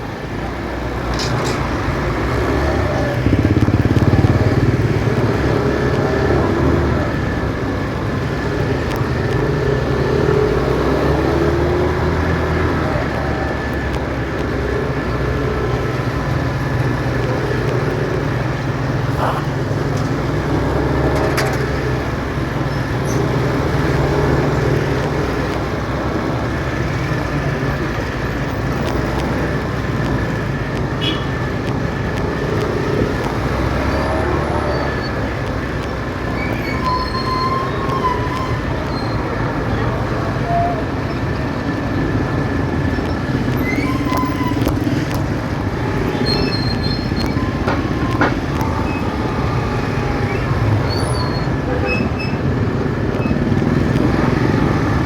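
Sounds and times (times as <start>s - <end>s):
motorcycle engine hum: 0.0s - 55.0s
road and traffic noise: 0.0s - 55.0s.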